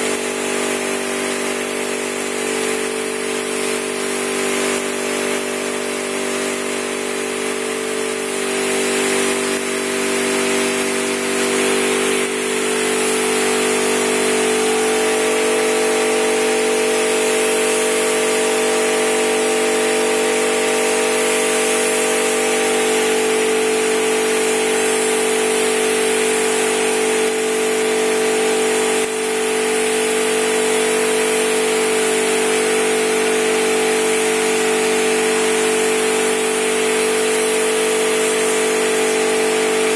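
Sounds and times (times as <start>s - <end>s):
spray gun hissing: 0.1s - 39.9s.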